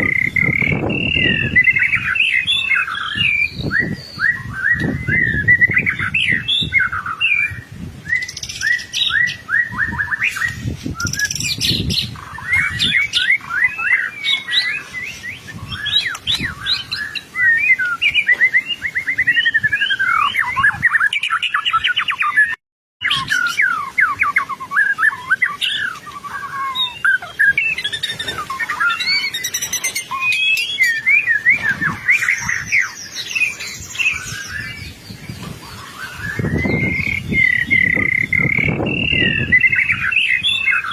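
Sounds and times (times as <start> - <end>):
bird singing varied whistles: 0.0 - 40.9.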